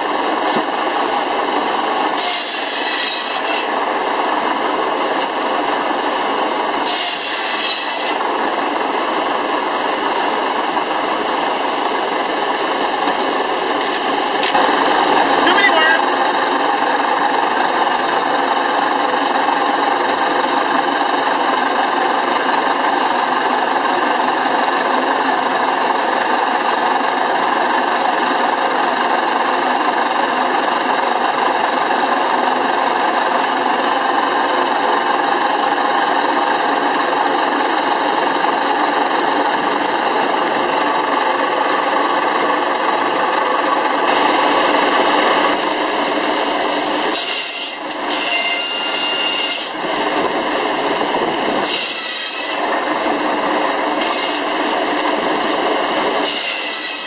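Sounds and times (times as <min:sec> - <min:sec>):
steam engine clattering: 0:00.0 - 0:57.0.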